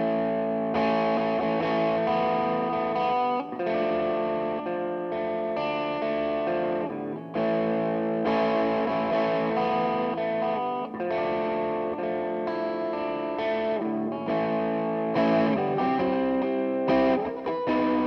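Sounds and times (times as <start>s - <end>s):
distorted electric guitar chords: 0.0s - 18.0s.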